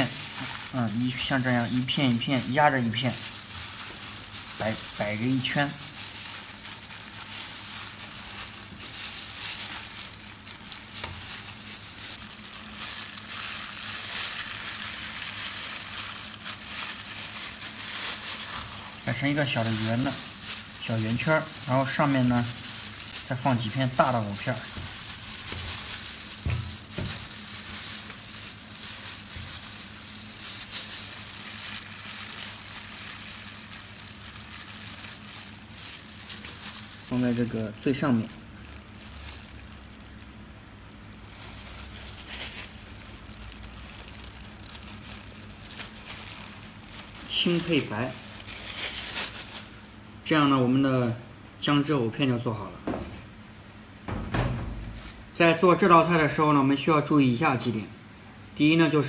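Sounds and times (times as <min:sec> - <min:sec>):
plastic gloves rustling: 0:00.0 - 0:51.3, 0:54.1 - 0:57.8
kitchen background hiss: 0:00.0 - 0:59.0.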